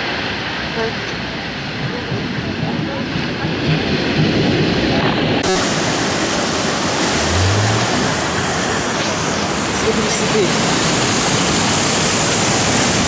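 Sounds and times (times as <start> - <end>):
waves breaking: 0.0 - 13.0.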